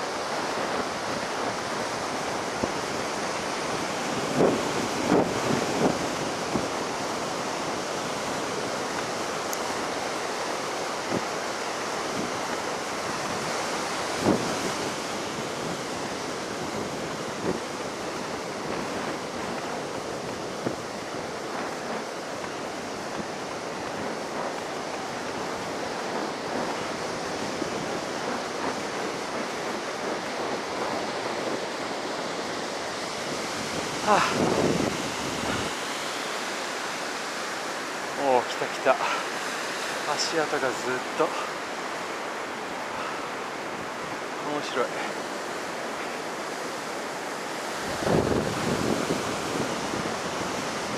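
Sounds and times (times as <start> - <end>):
ocean surf breaking: 0.0 - 50.9
wind on microphone: 0.0 - 50.9.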